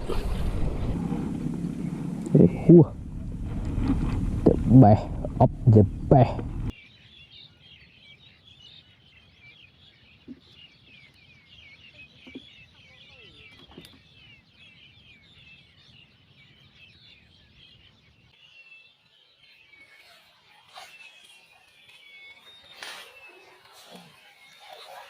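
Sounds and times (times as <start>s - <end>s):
small birds chirping: 1.6s - 2.9s, 5.6s - 25.0s.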